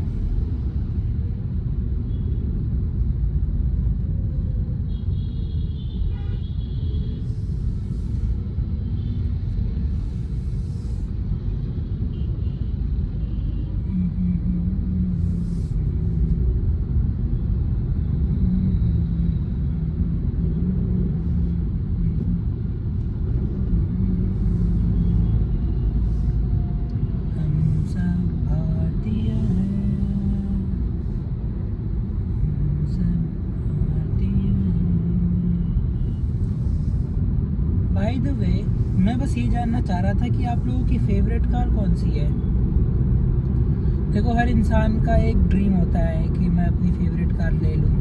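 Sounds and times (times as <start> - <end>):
road noise inside car: 0.0 - 48.0
car engine rumble: 7.1 - 48.0.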